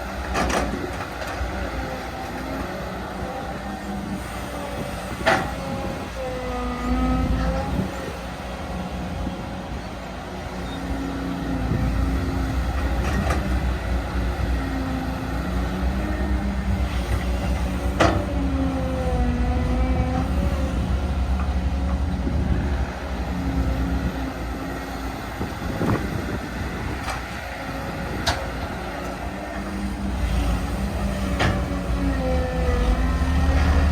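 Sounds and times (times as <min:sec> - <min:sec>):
excavator diesel engine: 0:00.0 - 0:33.9.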